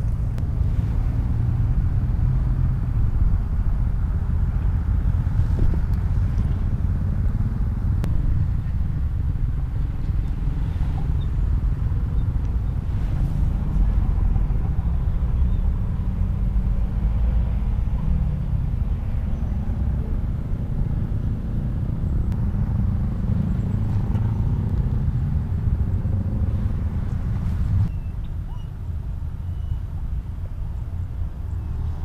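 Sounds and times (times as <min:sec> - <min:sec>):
wind buffeting microphone: 0:00.0 - 0:28.2.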